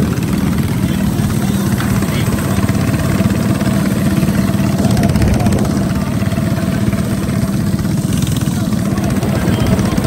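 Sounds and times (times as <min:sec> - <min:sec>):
mini bike engine idling: 0:00.0 - 0:10.0.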